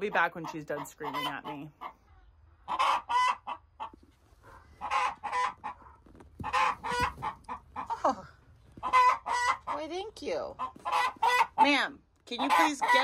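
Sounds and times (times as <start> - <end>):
hen squawking: 0.0 - 2.0, 2.7 - 8.2, 8.8 - 13.0.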